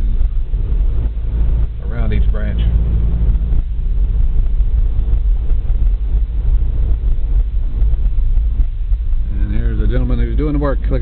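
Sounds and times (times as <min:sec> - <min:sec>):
engine and tyre rumble inside car: 0:00.0 - 0:11.0.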